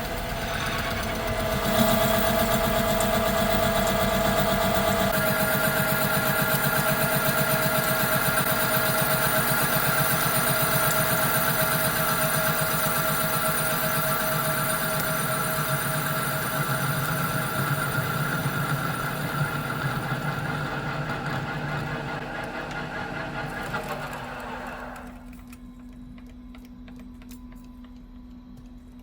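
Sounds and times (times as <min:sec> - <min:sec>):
metal lathe cutting steel: 0:00.0 - 0:25.0.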